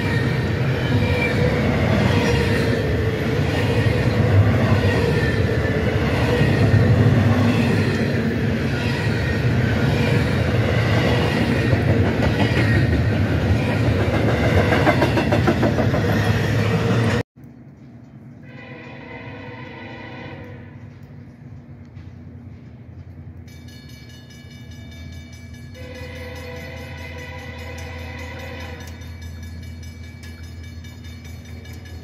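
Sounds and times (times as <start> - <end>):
freight train wheels rumbling: 0.0 - 32.0.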